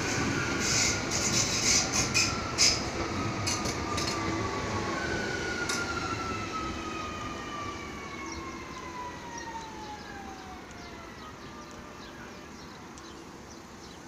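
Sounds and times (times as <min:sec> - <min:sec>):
electric train drive whining: 0:00.0 - 0:12.0
train rumbling: 0:00.0 - 0:13.0.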